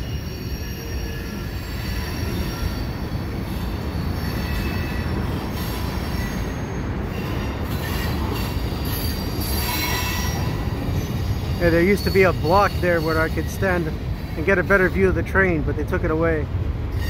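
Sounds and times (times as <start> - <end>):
high wheel squeals: 0.0 - 15.2
train wheels rumbling on rail: 0.0 - 17.0.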